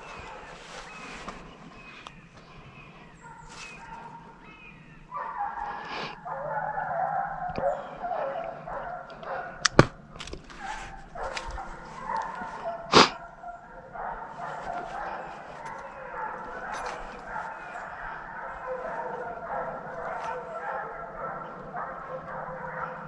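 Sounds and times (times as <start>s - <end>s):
hounds baying and yelping: 0.0s - 23.0s.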